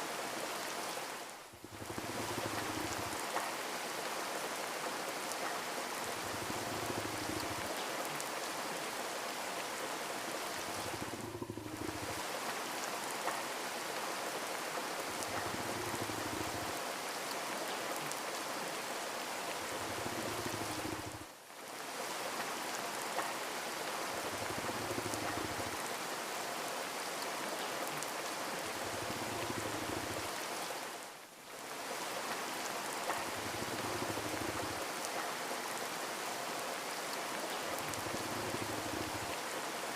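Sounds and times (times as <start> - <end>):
rain falling and pattering: 0.0 - 39.9.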